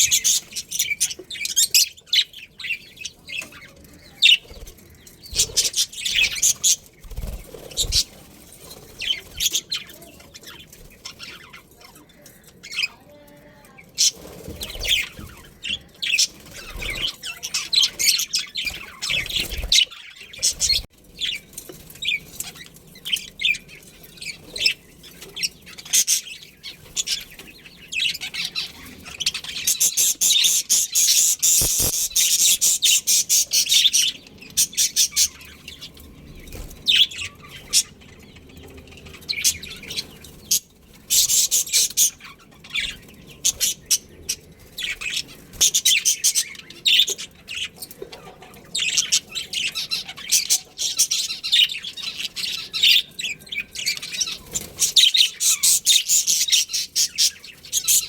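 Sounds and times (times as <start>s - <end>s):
budgerigars chirping: 0.0s - 13.0s, 22.0s - 58.0s.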